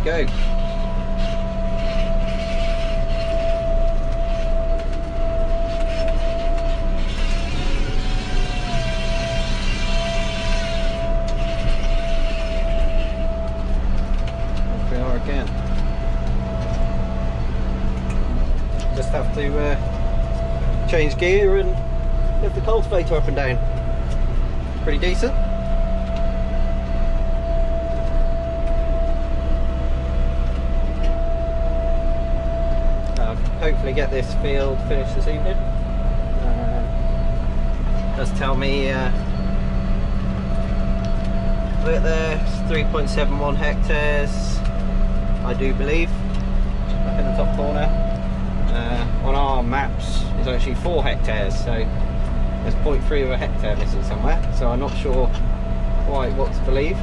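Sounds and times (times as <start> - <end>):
steady whine: 0.0 - 57.0
tractor engine under load: 0.0 - 57.0.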